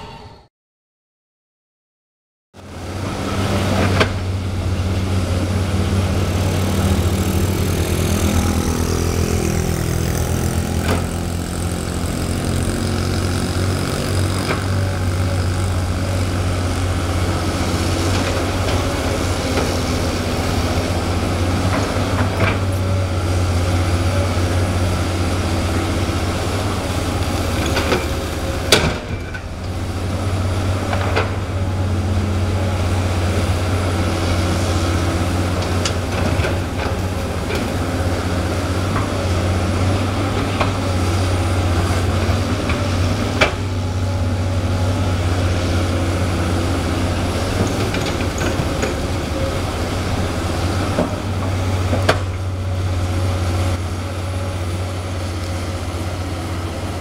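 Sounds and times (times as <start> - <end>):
excavator diesel engine: 2.6 - 57.0.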